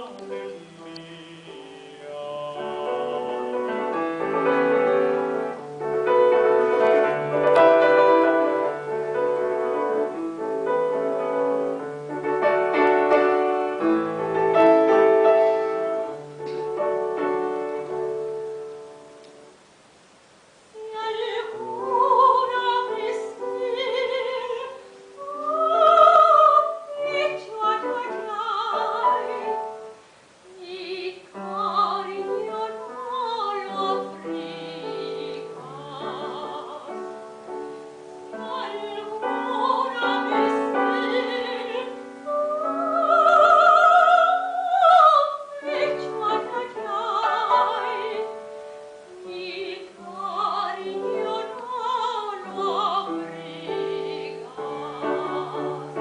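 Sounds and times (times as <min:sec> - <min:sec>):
operatic singing with vibrato: 0:00.0 - 0:11.8, 0:20.7 - 0:56.0
piano accompaniment: 0:00.0 - 0:19.5, 0:20.8 - 0:30.0, 0:30.8 - 0:56.0.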